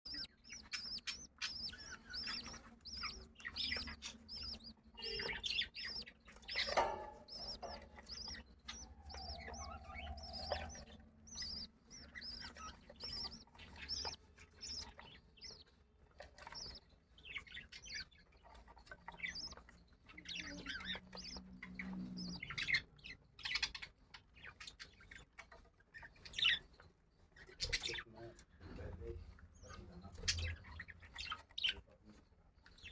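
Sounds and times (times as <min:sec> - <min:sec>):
budgerigars chirping: 0:00.0 - 0:26.8, 0:27.4 - 0:32.1.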